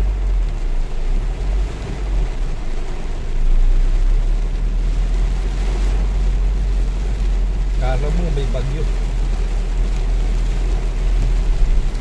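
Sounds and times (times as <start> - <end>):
heavy rain on car roof: 0.0 - 12.0
steady low rumble: 0.0 - 12.0.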